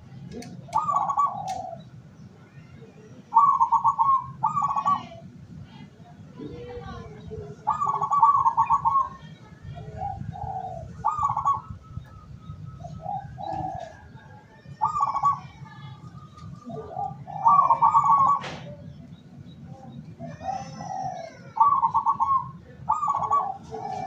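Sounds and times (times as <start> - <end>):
doves cooing: 0.0 - 2.2, 3.2 - 5.4, 6.4 - 24.0.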